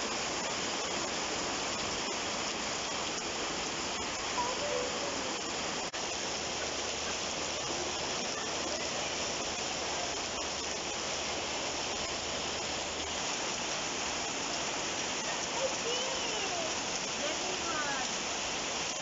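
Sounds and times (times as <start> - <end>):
heavy rain on street: 0.0 - 19.0.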